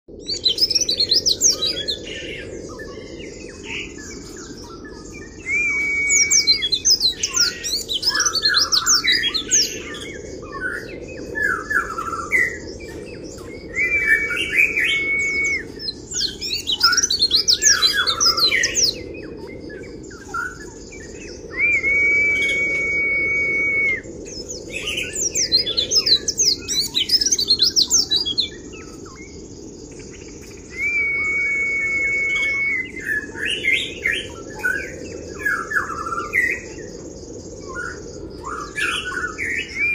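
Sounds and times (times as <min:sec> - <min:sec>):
bird chattering song: 0:00.2 - 0:39.9.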